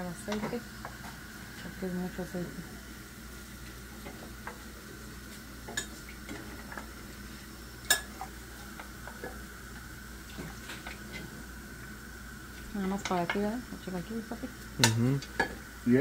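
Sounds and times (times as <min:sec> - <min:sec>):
oil sizzling: 0:00.0 - 0:16.0.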